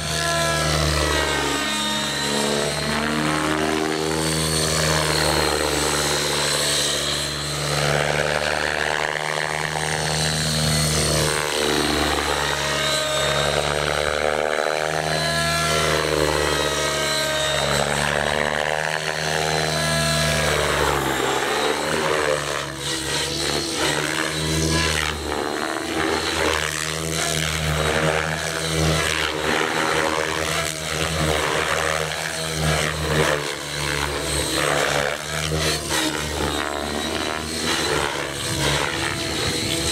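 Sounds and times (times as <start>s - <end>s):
helicopter rotor blades droning: 0.0s - 39.9s.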